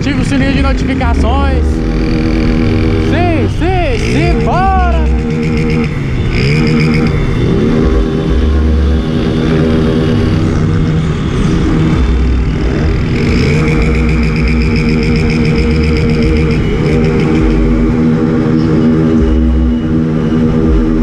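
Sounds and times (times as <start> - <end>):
engine revving: 0.0 - 21.0
motorcycle engines: 0.0 - 21.0.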